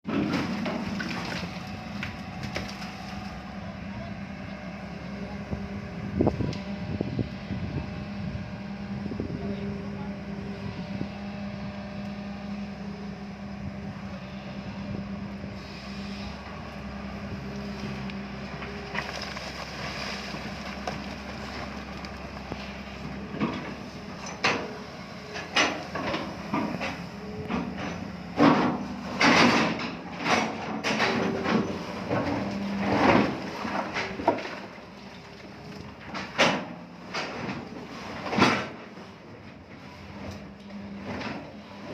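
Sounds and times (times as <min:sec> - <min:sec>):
excavator engine running: 0:00.1 - 0:41.9.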